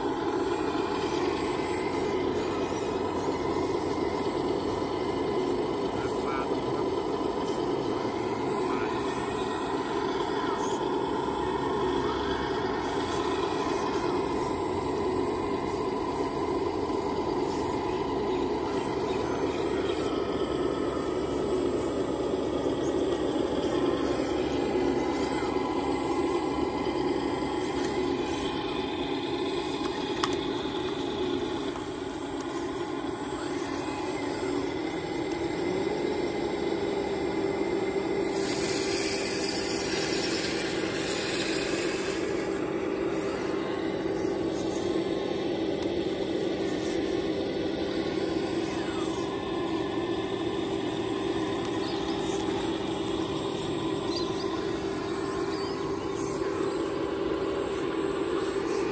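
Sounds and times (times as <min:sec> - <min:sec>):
hydraulic pump motor whirring: 0:00.0 - 0:58.9.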